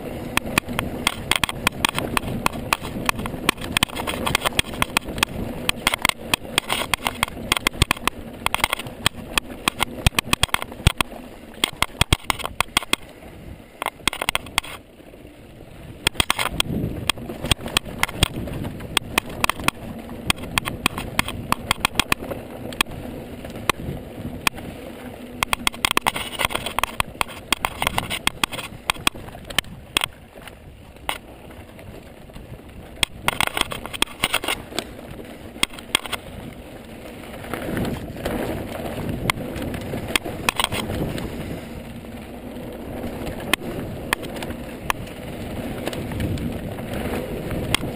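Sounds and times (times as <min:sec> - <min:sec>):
bike rattling over bumps: 0:00.0 - 0:47.9
steady rushing noise: 0:00.0 - 0:47.9.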